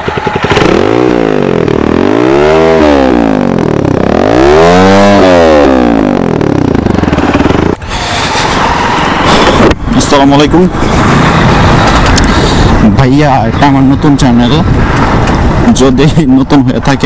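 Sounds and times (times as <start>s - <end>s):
motorcycle engine revving: 0.0s - 13.0s, 13.6s - 17.0s.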